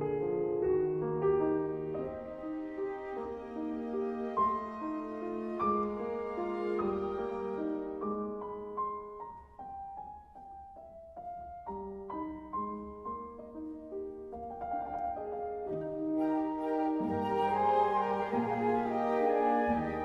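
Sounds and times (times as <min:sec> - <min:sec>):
slow solo piano melody: 0:00.0 - 0:20.0.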